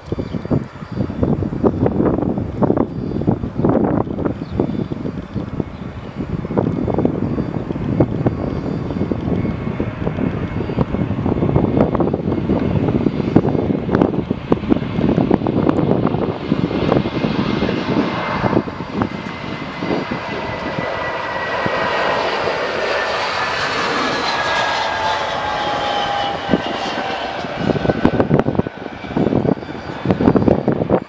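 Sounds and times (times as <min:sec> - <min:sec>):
jet airliner engine whine: 0:00.0 - 0:31.0
rough low rumble: 0:01.3 - 0:31.0.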